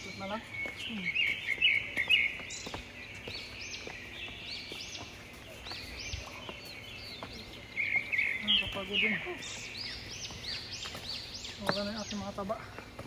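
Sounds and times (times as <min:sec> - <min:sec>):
wild birds calling: 0:00.0 - 0:13.0.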